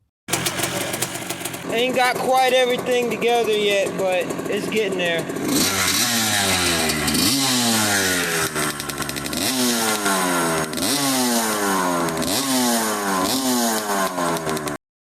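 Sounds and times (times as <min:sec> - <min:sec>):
dirt bike engine revving: 0:00.3 - 0:14.8.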